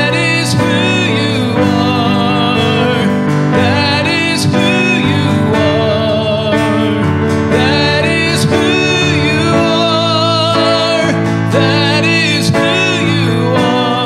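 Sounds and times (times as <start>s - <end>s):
singers holding long notes: 0.0s - 14.0s
worship song by band: 0.0s - 14.0s.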